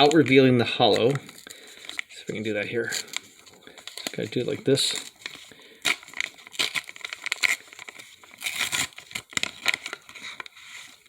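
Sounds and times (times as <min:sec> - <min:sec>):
card pack wrapper crinkling and tearing: 0:00.0 - 0:11.0.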